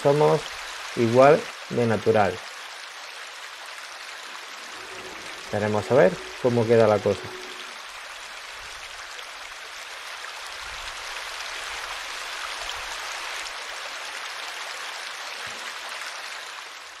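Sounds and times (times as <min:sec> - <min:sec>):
stream babbling over stones: 0:00.0 - 0:17.0.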